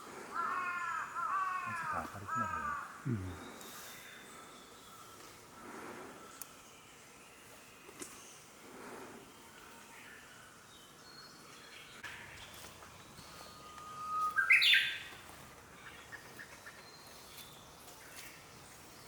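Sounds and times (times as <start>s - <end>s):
faint bird chirps: 0.4s - 19.0s.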